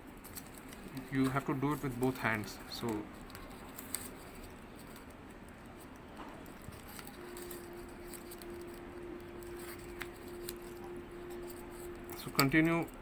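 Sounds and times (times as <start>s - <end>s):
paper rustling and crackling: 0.0s - 13.0s
steady low hum: 0.0s - 13.0s.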